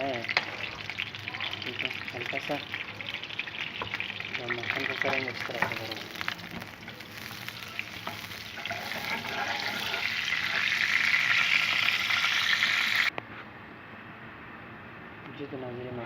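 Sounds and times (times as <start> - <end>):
butter sizzling in a frying pan: 0.0 - 13.1.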